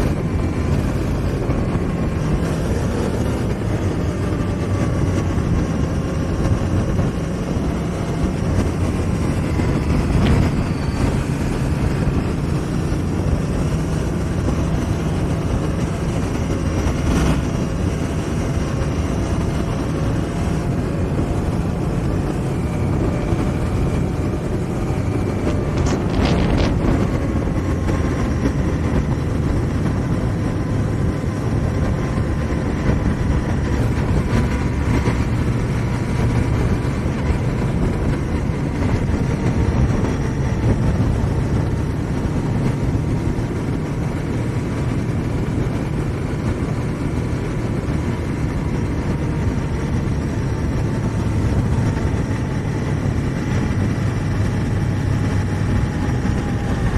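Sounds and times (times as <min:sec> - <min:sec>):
motorcycle engine running: 0:00.0 - 0:56.9
wind rushing over microphone: 0:00.0 - 0:56.9.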